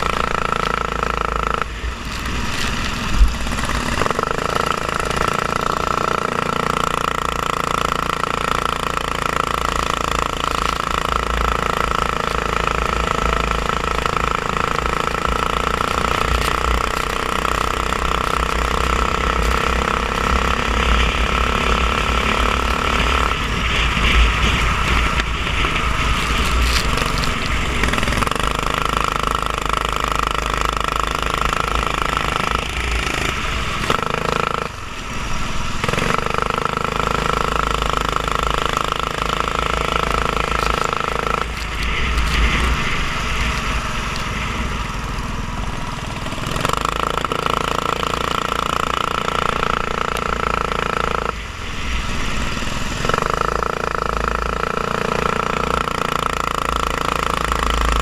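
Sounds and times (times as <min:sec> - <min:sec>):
racing kart engine running hard: 0:00.0 - 0:58.0.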